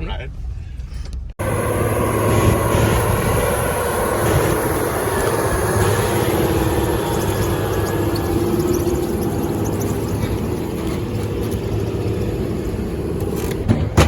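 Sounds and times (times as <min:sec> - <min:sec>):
tractor diesel engine droning: 0:01.4 - 0:14.0.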